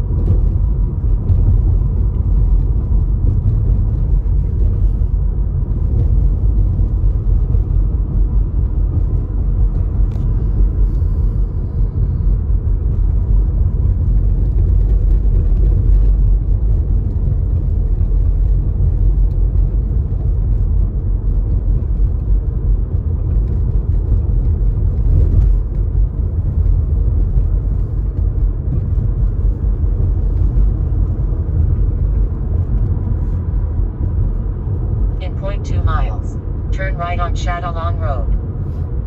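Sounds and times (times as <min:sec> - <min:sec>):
car engine and tyre noise: 0:00.0 - 0:39.0.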